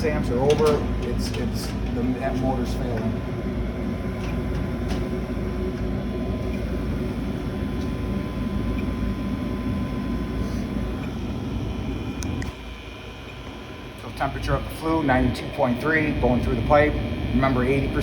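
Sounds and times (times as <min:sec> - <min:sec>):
furnace air and motor rumble: 0:00.0 - 0:18.0.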